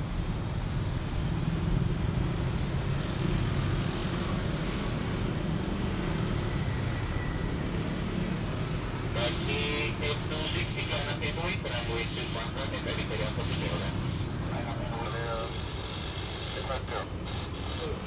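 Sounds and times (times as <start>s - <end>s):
distant engines rumbling: 0.0s - 18.0s.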